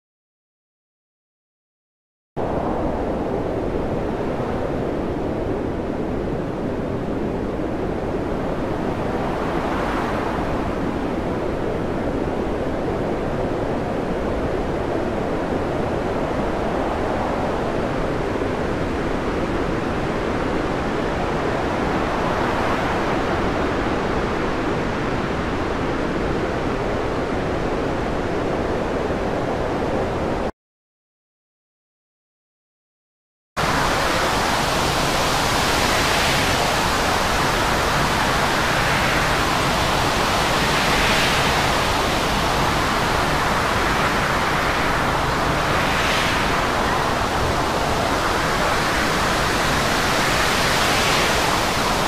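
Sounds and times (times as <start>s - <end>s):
storm wind and heavy seas: 2.4s - 30.5s, 33.6s - 52.0s.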